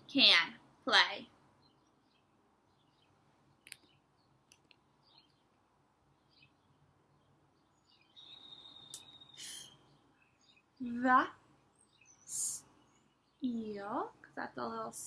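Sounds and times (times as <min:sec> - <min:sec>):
faint bird chirps: 0:01.2 - 0:14.5.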